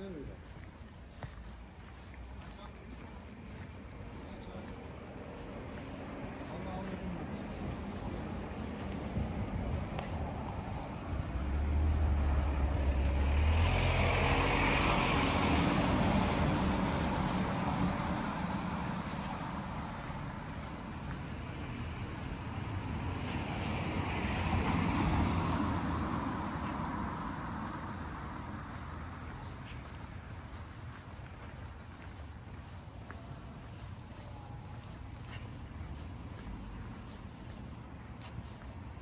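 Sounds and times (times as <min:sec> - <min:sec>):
cars passing on wet street: 0:00.0 - 0:39.0.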